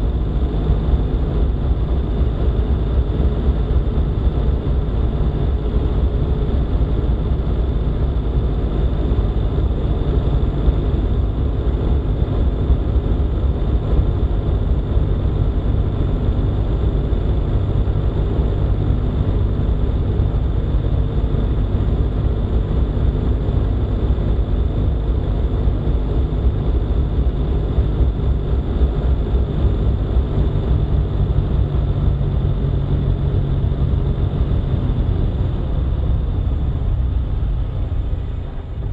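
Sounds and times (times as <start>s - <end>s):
vehicle driving on paved road: 0.0s - 38.9s.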